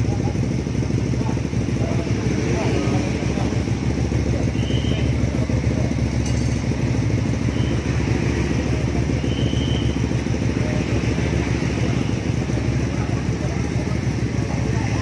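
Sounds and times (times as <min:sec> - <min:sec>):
motorcycle idling: 0:00.0 - 0:15.0.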